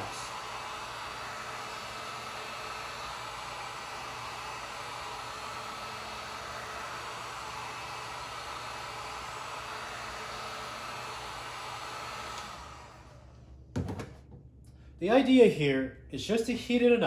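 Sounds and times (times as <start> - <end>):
heat gun fan blowing: 0.0 - 17.0.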